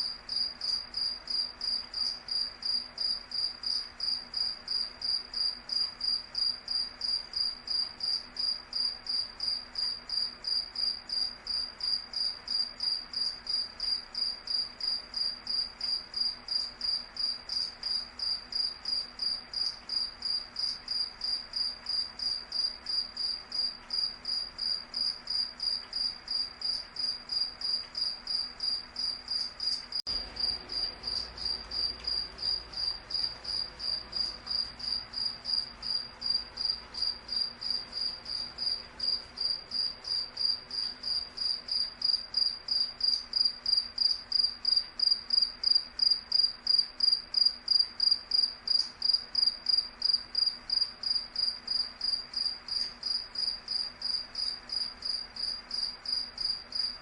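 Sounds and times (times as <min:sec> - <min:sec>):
faint low hum: 0:00.0 - 0:46.1
cricket chirping: 0:00.0 - 0:57.0.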